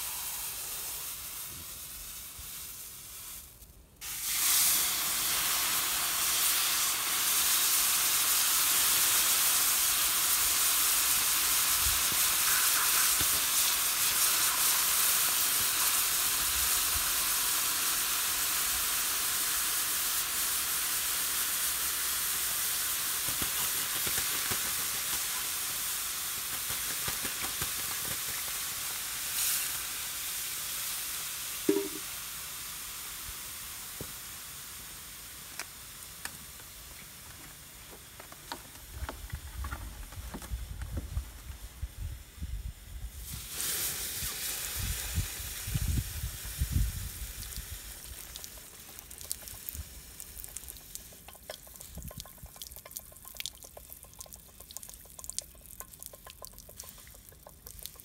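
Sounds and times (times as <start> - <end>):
steam hissing and sizzling: 0.0 - 52.5.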